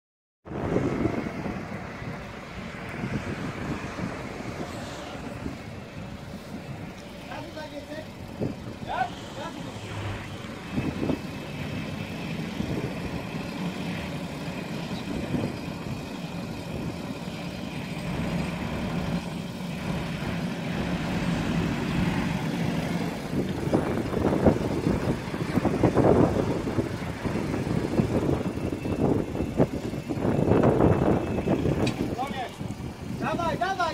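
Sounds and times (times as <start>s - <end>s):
tractor engine running: 0.5s - 33.9s.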